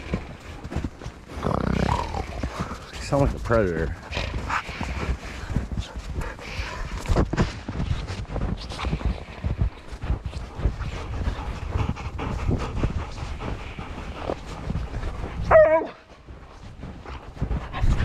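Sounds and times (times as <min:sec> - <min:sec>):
footsteps crunching in wet snow: 0:00.0 - 0:18.0.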